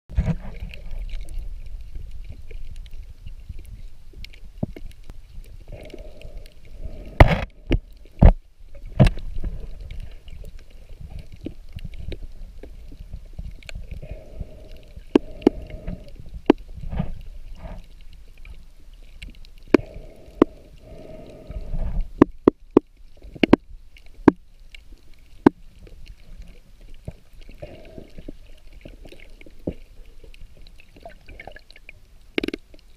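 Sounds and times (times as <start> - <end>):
muffled underwater rumble: 0.1 - 32.9.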